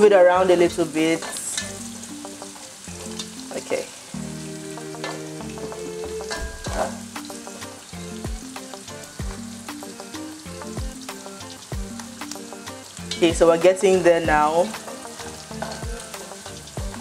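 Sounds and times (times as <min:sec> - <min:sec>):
onions sizzling in oil: 0:00.0 - 0:17.0
background music with steady beat: 0:00.5 - 0:17.0.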